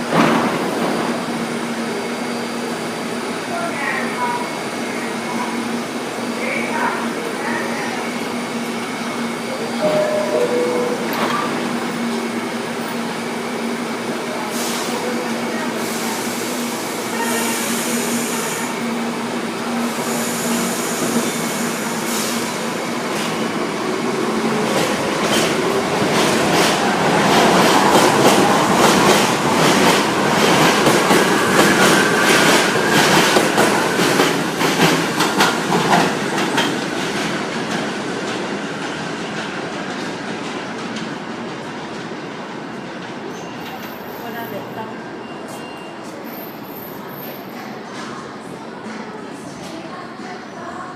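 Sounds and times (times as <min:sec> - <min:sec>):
subway train humming: 0:00.0 - 0:50.9.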